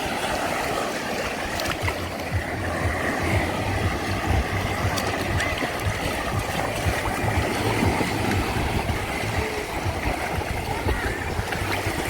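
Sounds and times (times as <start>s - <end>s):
sea waves washing at shore: 0.0s - 12.0s
low hum: 1.7s - 12.0s.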